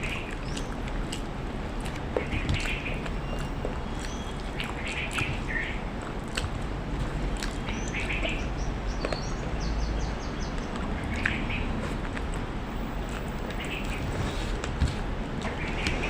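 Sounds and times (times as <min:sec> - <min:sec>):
birds chirping: 0:00.0 - 0:06.2, 0:07.3 - 0:14.6, 0:15.3 - 0:16.0
steady background noise: 0:00.0 - 0:16.0.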